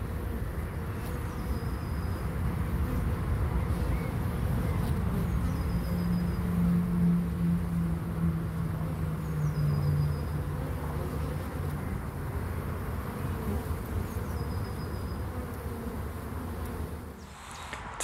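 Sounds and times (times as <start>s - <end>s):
honeybees buzzing: 0.0s - 17.3s.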